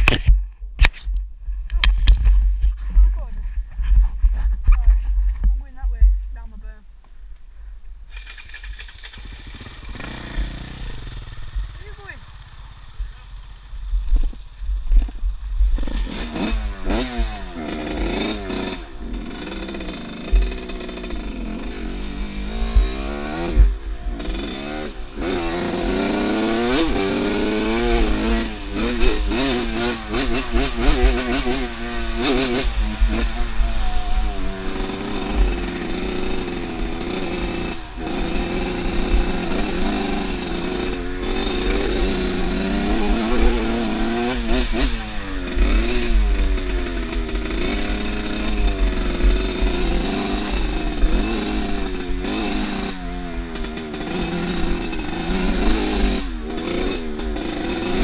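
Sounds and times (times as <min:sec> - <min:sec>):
motorcycle engine revving: 0:08.1 - 0:58.0.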